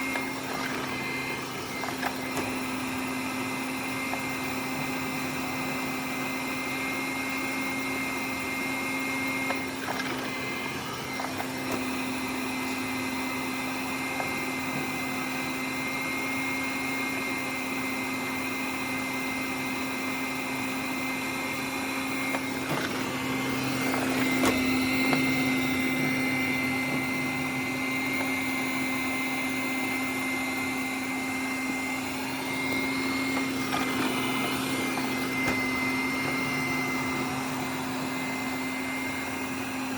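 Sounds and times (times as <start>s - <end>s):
robot vacuum cleaner running: 0.0s - 39.9s.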